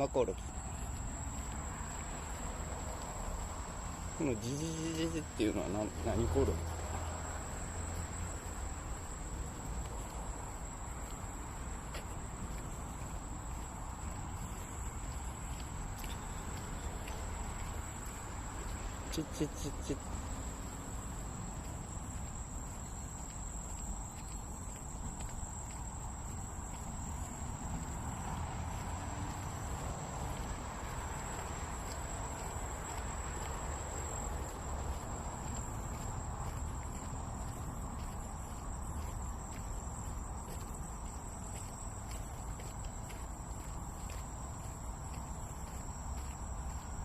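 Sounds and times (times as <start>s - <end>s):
crickets trilling: 0.0s - 47.0s.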